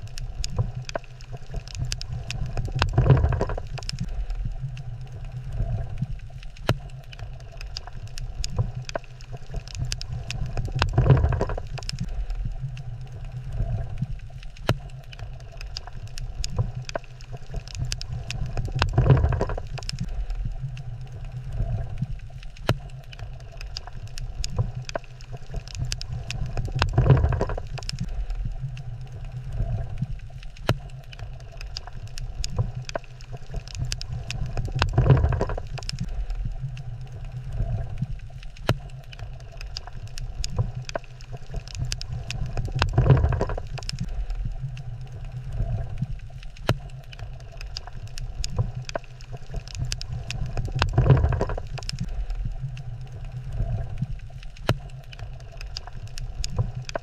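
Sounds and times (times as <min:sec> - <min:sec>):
underwater low rumble: 0:00.0 - 0:57.0.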